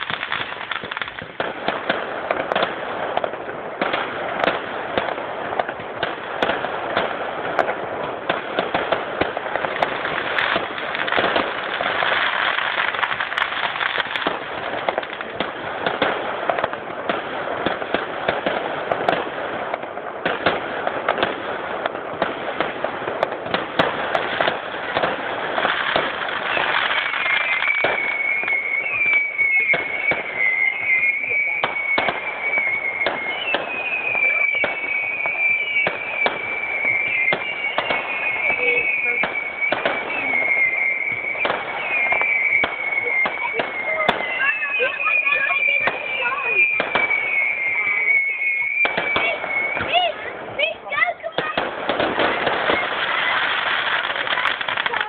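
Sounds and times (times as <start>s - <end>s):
firework whistle: 0.0s - 55.0s
fireworks crackling: 0.0s - 55.0s.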